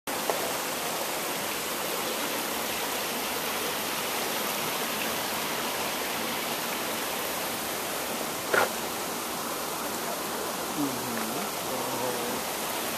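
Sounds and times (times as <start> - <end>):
stream flowing over rocks: 0.1 - 12.9.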